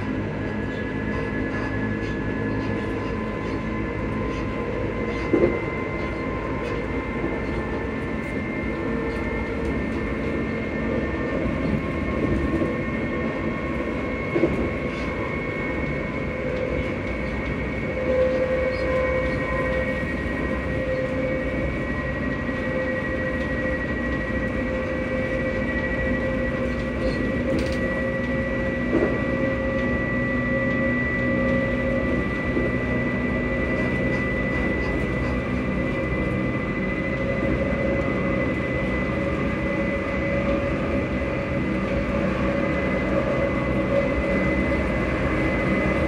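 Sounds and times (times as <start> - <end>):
electric train motors humming: 0.0 - 46.0
train rumbling on rails: 0.0 - 46.0.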